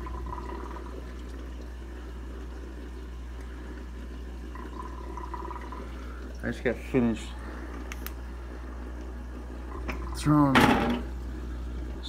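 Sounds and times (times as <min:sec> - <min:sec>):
aquarium pump humming: 0:00.0 - 0:12.0
gentle water movement: 0:00.0 - 0:12.0.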